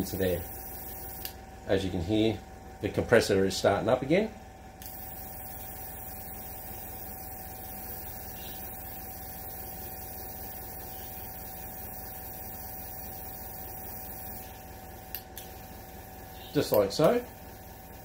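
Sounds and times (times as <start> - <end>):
air compressor motor humming: 0.0 - 2.8, 4.5 - 18.0.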